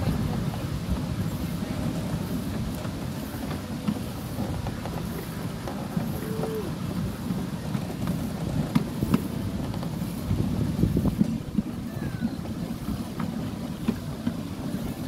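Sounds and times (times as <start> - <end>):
miniature train rumble and clatter: 0.0 - 15.0.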